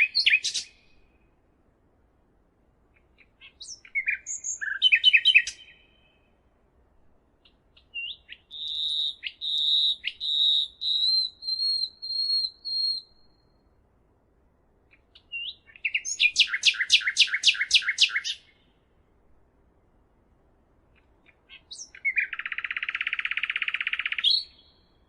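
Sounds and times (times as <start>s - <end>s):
songbird singing: 0.0s - 1.7s, 2.8s - 14.0s, 14.7s - 25.0s.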